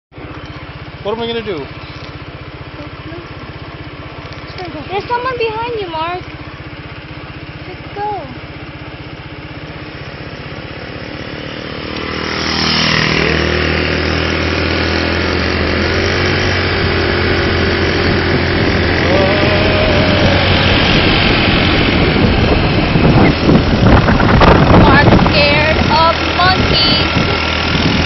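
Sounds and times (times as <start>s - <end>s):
wind and road noise: 0.1s - 28.0s
small motorbike engine: 0.2s - 28.0s.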